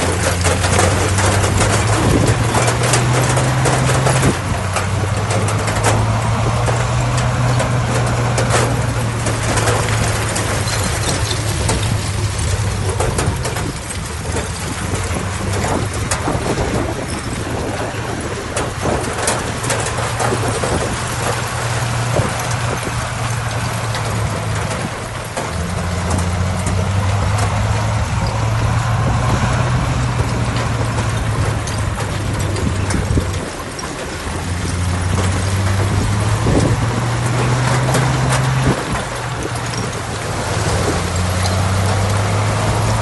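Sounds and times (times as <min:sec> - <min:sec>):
clanks and knocks: 0:00.0 - 0:43.0
heavy diesel engine droning: 0:00.0 - 0:43.0.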